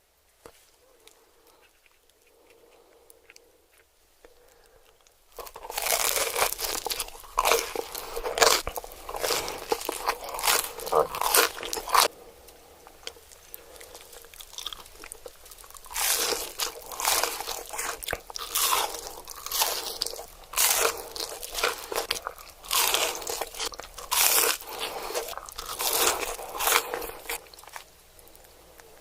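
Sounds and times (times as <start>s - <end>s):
crunchy bites of food: 0.9s - 29.0s.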